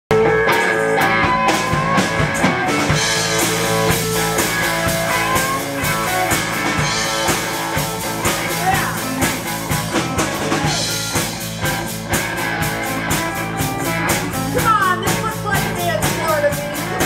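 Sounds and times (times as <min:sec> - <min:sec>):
live rock band playing: 0:00.1 - 0:17.0.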